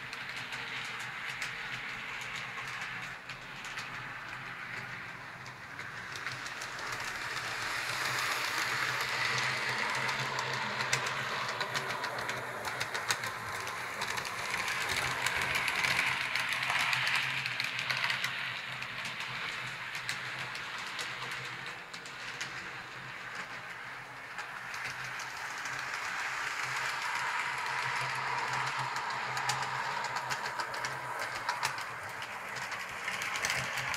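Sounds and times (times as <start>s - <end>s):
model train whirring on track: 0.0s - 33.9s
wheels clicking on rails: 0.0s - 33.9s.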